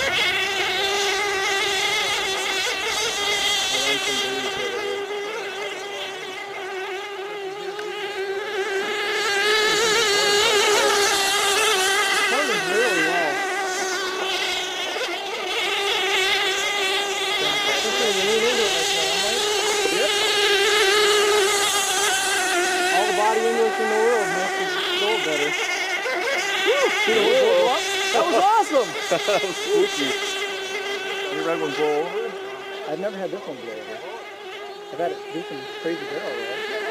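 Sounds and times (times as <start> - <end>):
model boat engine screaming: 0.0 - 36.9.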